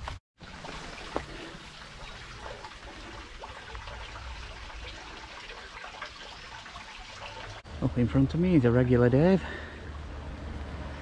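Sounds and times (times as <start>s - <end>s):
water patter and trickling: 0.4s - 11.0s.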